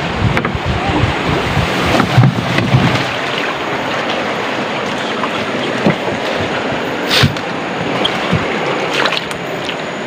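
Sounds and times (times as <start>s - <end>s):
water rushing in flooded river: 0.0s - 10.0s
wind on microphone: 0.0s - 10.0s.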